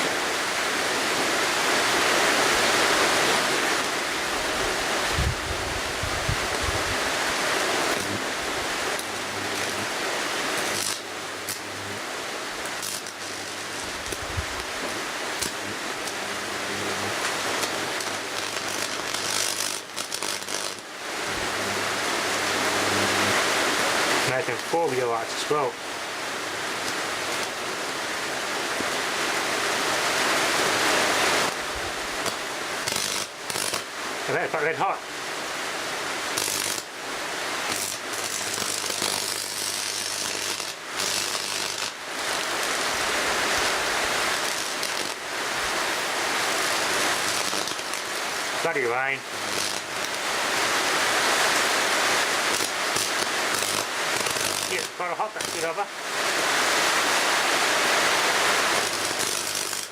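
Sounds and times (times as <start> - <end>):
electric arc sizzling: 0.0 - 59.9
low mains buzz: 0.0 - 59.9.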